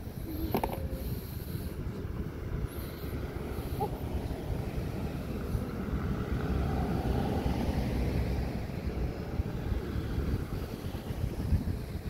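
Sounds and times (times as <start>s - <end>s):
cars driving past slowly: 0.0s - 12.0s
wind buffeting microphone: 0.0s - 12.0s.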